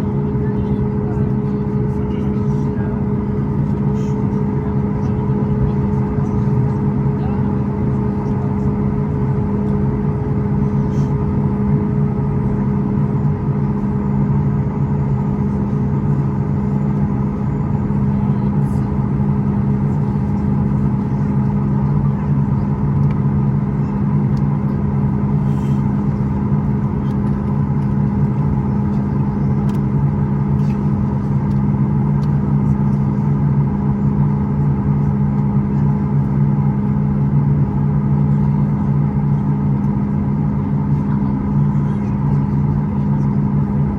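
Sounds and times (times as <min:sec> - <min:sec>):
airliner cabin drone: 0:00.0 - 0:43.9.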